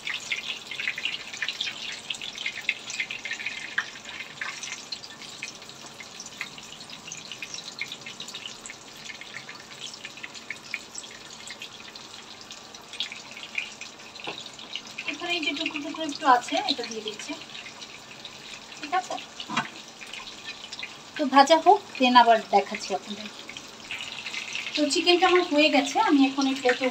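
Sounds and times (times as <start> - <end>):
oil sizzling in a frying pan: 0.0 - 26.9.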